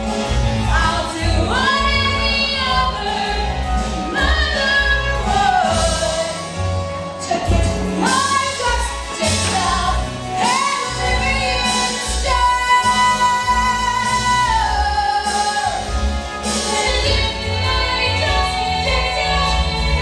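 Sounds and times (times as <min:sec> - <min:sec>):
instrumental accompaniment: 0:00.0 - 0:20.0.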